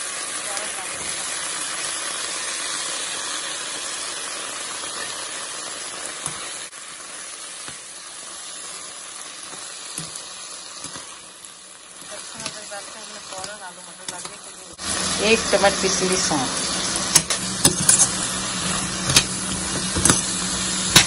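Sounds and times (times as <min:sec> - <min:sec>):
potatoes frying in hot oil: 0:00.0 - 0:21.0.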